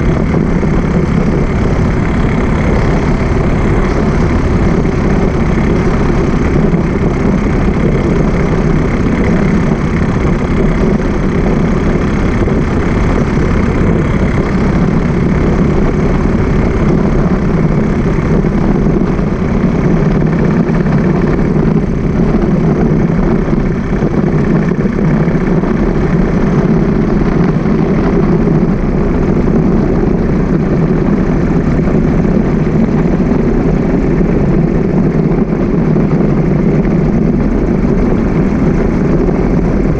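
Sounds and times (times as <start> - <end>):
motorbike engine hum: 0.0 - 39.9
wind and road noise: 0.0 - 39.9.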